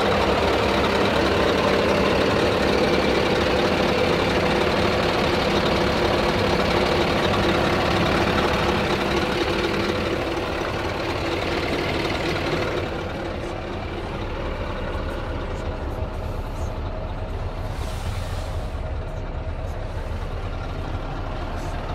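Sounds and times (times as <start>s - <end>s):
truck diesel engine idling: 0.0s - 21.9s.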